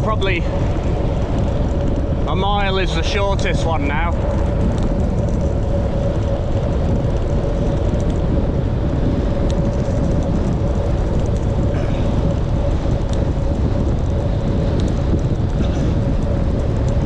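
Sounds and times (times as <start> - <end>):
constant hum: 0.0 - 17.0
wind rushing over microphone: 0.0 - 17.0.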